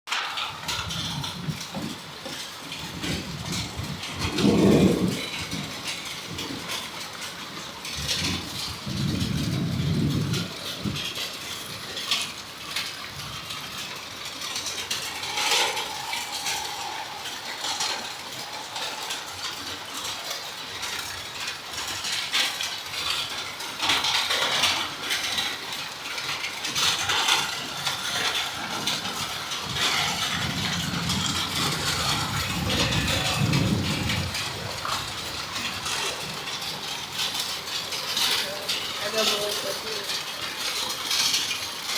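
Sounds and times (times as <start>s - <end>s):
clattering raindrops: 0.1s - 41.9s
heavy rain falling: 0.1s - 41.9s.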